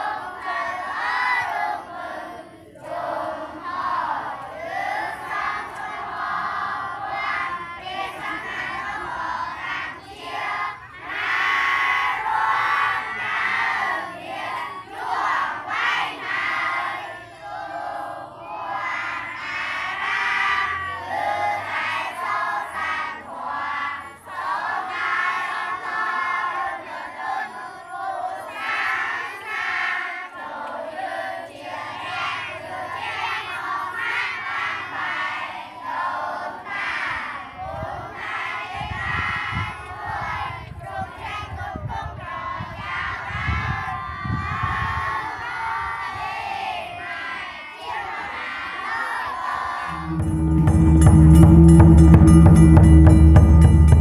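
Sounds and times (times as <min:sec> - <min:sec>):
crowd shouting and cheering: 0:00.0 - 0:54.0.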